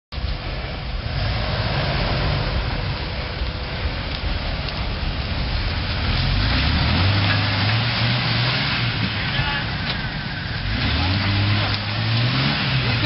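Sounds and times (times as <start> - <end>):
off-road vehicle engine rumbling: 0.1 - 13.0.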